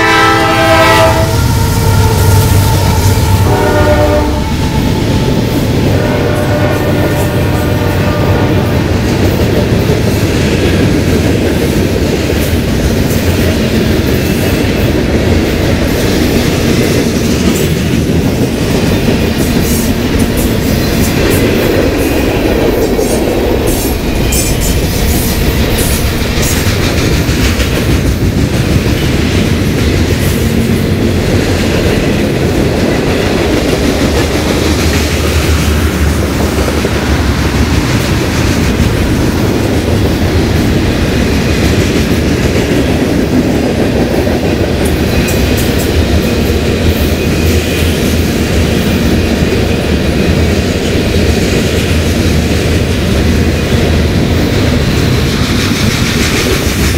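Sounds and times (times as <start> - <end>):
freight train rumbling: 0.0 - 56.9.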